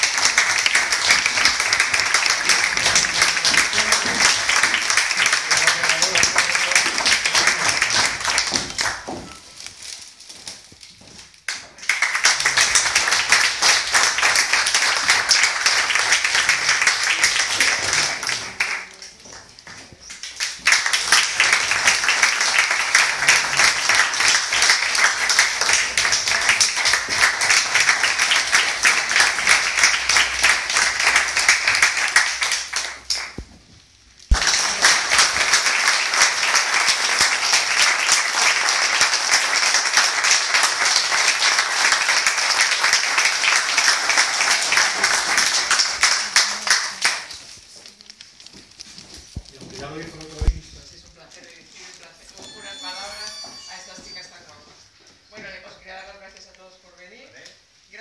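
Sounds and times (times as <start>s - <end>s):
audience applauding: 0.0s - 9.4s, 11.5s - 33.4s, 34.3s - 47.6s, 52.3s - 54.3s.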